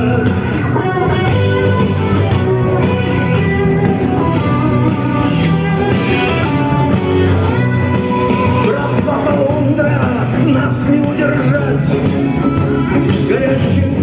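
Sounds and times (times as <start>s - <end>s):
instrumental rock band music: 0.0s - 14.0s.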